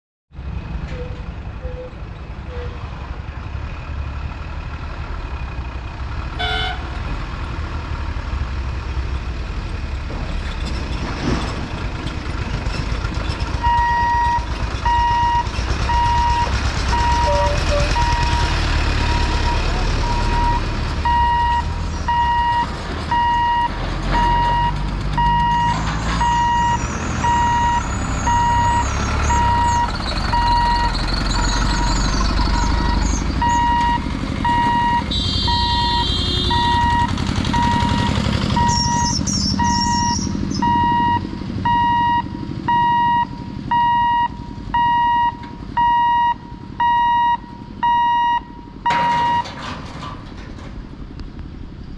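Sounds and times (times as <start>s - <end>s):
lorry diesel engine rumbling: 0.3s - 51.9s.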